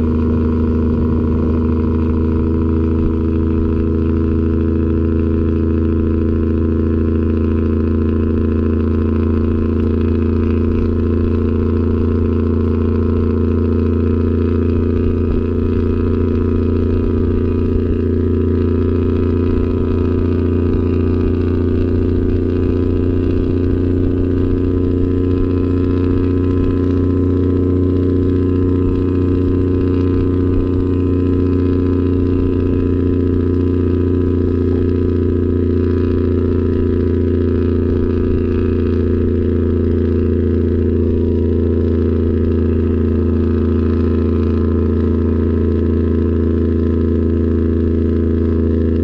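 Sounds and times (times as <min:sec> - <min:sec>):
diesel truck engine droning: 0:00.0 - 0:49.0.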